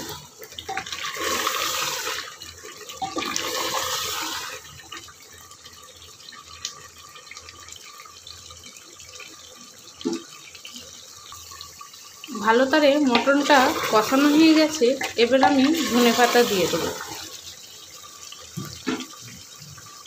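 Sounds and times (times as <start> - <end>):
meat sizzling in a pot: 0.0 - 20.0.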